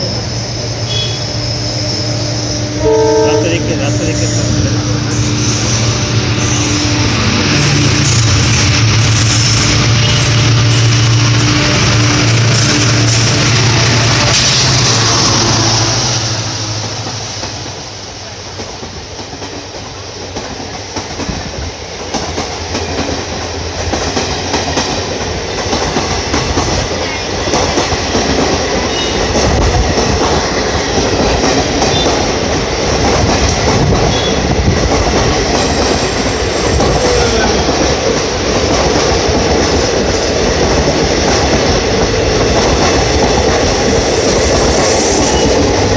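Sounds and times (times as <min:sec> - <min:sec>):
diesel locomotive passing: 0:00.0 - 0:45.9.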